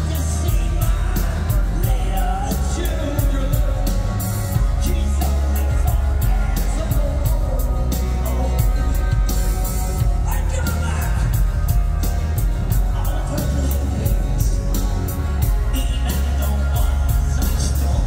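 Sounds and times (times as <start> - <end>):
drums beating: 0.0 - 18.0
electric guitar: 0.0 - 18.0
heavy bass: 0.0 - 18.0.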